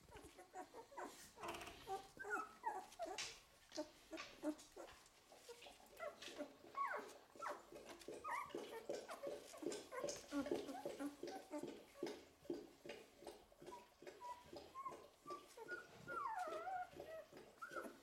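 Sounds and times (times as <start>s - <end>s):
puppies whimpering and squeaking: 0.0s - 12.6s, 13.6s - 18.0s.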